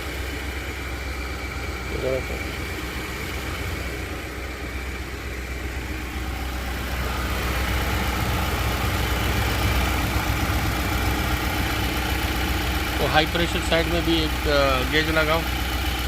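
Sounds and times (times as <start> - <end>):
air conditioning compressor: 0.0 - 16.0
car engine idling: 0.0 - 16.0.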